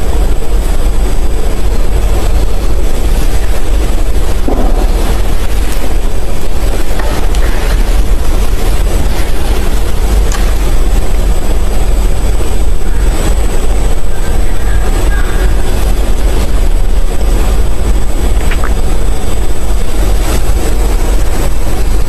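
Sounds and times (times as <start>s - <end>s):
engines rumbling: 0.0s - 22.0s.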